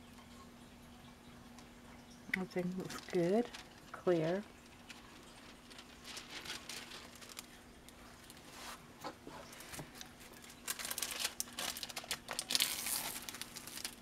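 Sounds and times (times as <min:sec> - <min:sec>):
plastic film crinkling: 0:02.6 - 0:14.0.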